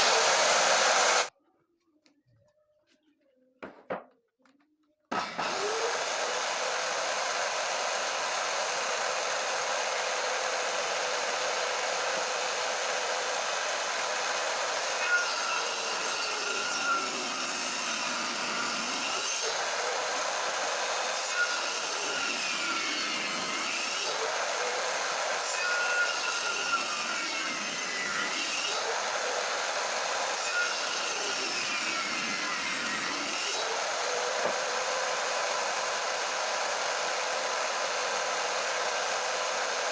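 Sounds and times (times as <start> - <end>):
table saw whining: 0.0 - 1.3, 5.1 - 39.9.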